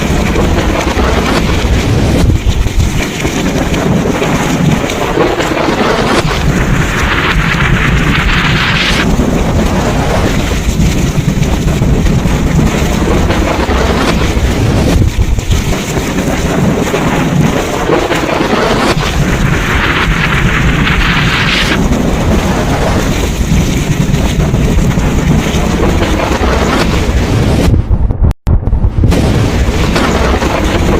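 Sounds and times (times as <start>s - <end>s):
deep rumble of thunder: 0.0s - 30.9s
heavy rain: 0.0s - 30.9s
hissing surge of rain or wind: 0.0s - 30.9s.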